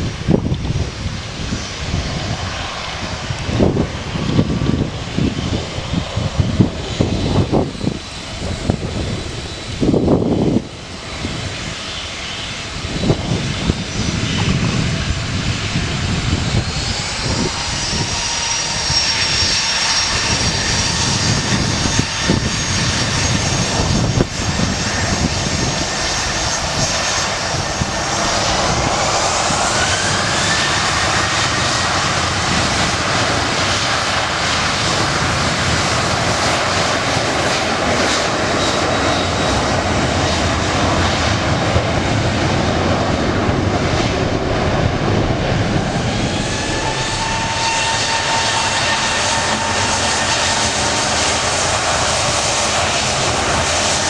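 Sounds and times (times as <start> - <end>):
jet engines running: 0.0 - 54.0
rising engine whine: 0.0 - 54.0.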